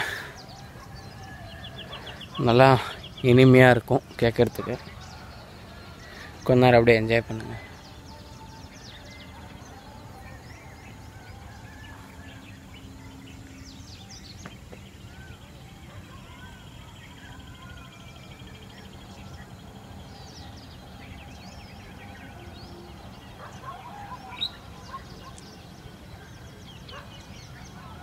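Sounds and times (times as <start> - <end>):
birds chirping and whistling: 0.0 - 28.0.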